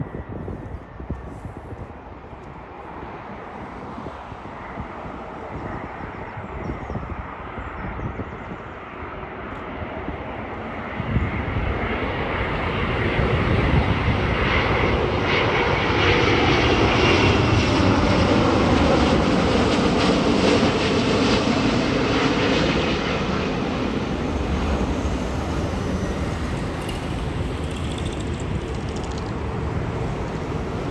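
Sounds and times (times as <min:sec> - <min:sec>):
jet airliner engine noise: 0:00.0 - 0:30.9.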